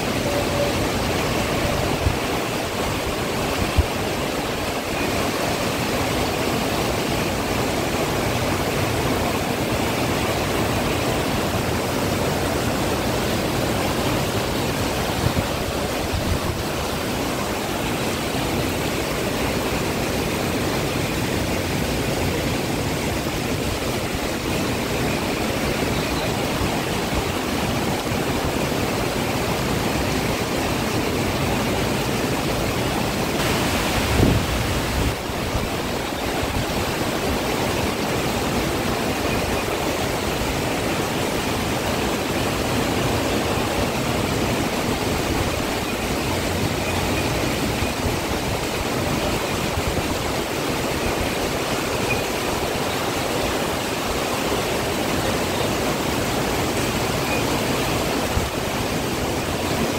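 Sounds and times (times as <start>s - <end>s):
heavy wind-driven rain: 0.0s - 59.9s.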